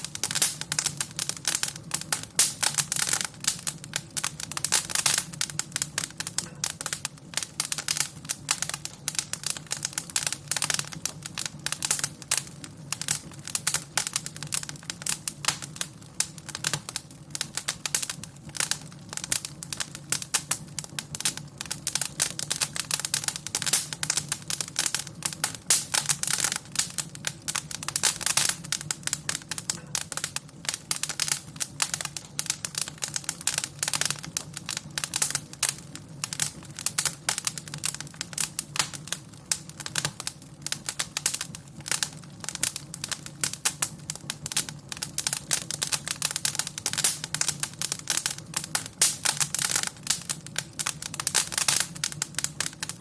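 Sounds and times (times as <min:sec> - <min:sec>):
low rumble of fire: 0:00.0 - 0:53.0
wood fire crackling: 0:00.0 - 0:53.0.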